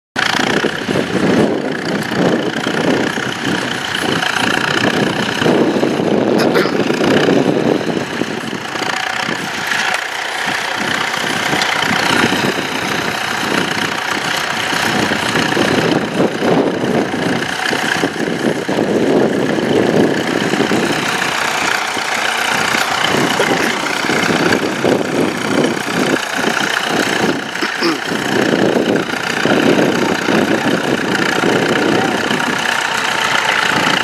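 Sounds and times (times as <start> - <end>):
tractor engine running: 0.2 - 34.0.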